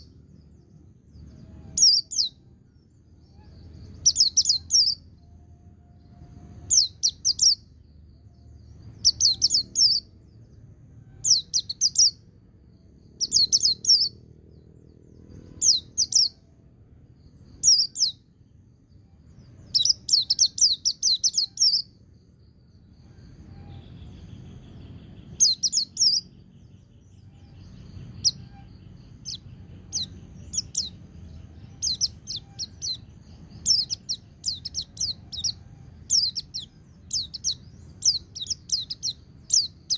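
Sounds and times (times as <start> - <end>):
bird rapid high chirping: 0.0 - 5.2, 6.0 - 10.5, 11.1 - 12.3, 13.0 - 16.4, 17.3 - 18.4, 19.3 - 22.1, 23.2 - 39.9.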